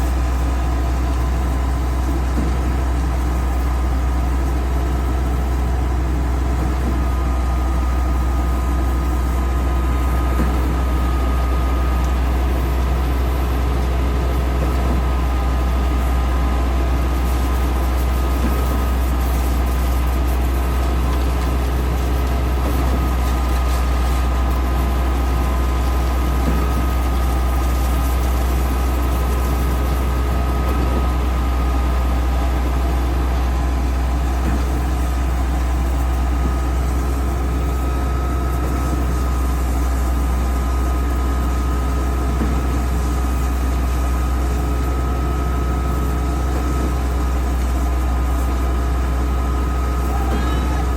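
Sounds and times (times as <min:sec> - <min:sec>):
pump engine deep hum: 0:00.0 - 0:50.9.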